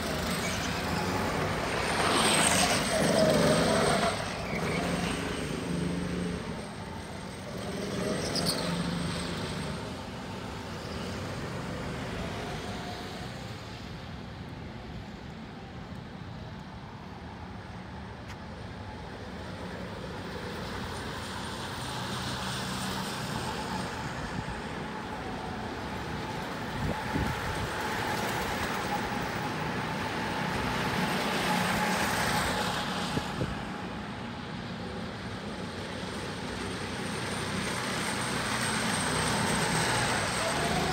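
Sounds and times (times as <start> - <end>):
go-karts passing: 0.0 - 13.9, 19.6 - 40.9.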